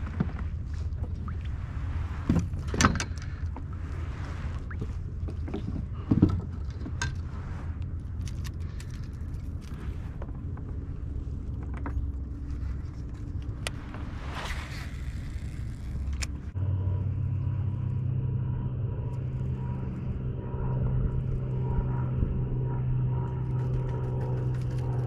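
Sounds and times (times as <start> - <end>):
low drone with faint pitch: 0.0 - 25.0
low rumble: 0.0 - 25.0.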